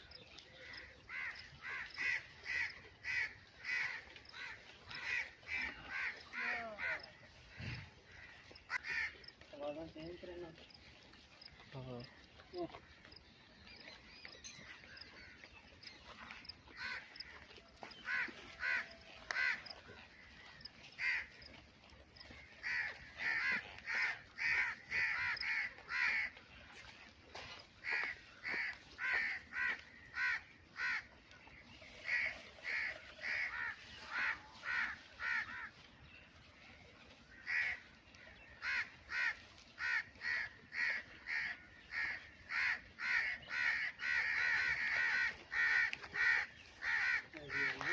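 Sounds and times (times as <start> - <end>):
birds calling: 0.0 - 47.9.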